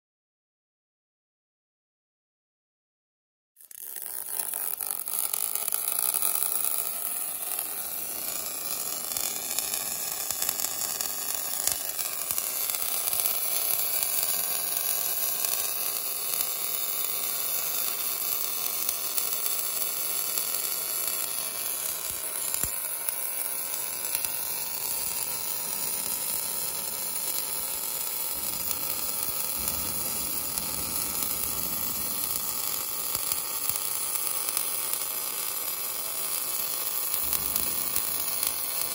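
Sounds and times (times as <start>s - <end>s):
welding arc sizzling hiss: 3.6s - 38.9s.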